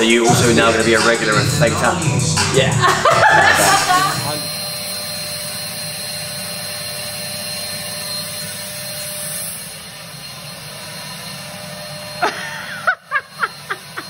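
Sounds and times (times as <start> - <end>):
thin steady whine: 0.0 - 14.0
turbine blower running: 0.0 - 14.0.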